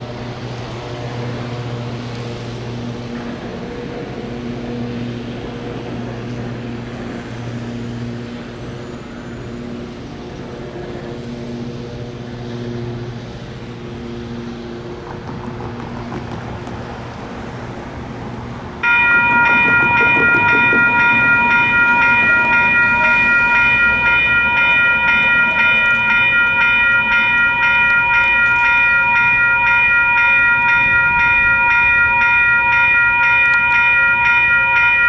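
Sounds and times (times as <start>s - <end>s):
traffic noise: 0.0s - 35.0s
vehicle engines humming: 0.1s - 35.0s.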